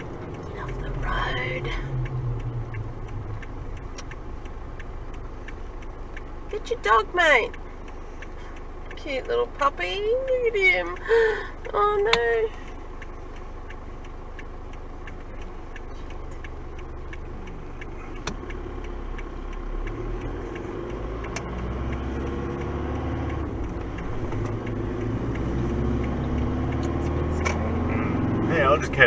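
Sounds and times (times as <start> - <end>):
car engine and road noise: 0.0 - 29.0
regular ticking: 0.0 - 29.0.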